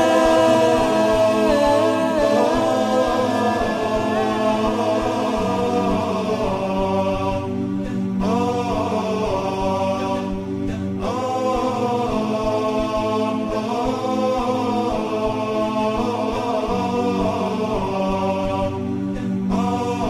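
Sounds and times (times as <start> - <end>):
steady low drone: 0.0 - 20.0
vocal chanting: 0.0 - 20.0.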